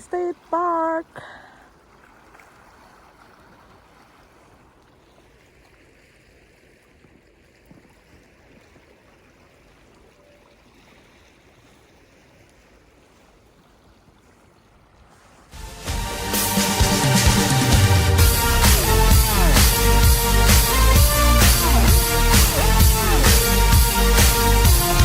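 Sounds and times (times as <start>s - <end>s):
lake water lapping shore: 0.0s - 25.0s.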